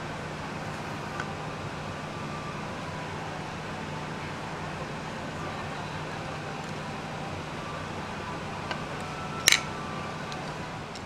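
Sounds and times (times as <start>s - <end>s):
railcar running hum: 0.0s - 11.0s.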